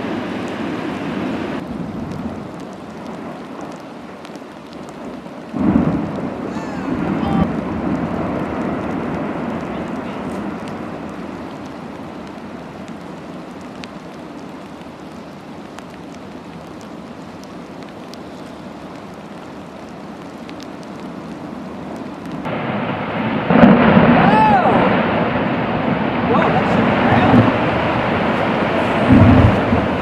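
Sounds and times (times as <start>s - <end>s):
rushing water: 0.0s - 30.0s
wind: 0.0s - 30.0s.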